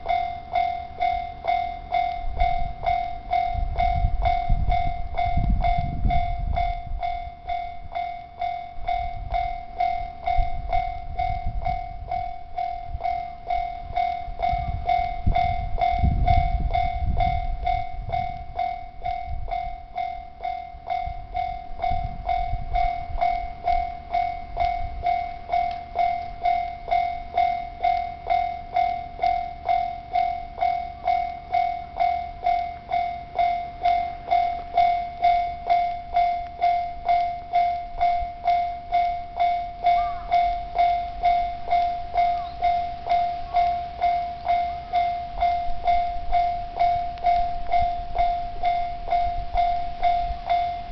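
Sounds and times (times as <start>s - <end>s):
level crossing bell ringing: 0.0s - 50.9s
train rumbling over crossing: 0.0s - 50.9s.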